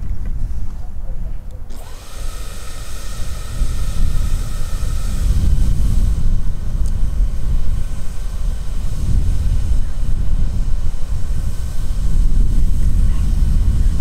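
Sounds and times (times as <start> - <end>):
faint steady whine: 0.0 - 14.0
wind buffeting microphone: 0.0 - 14.0.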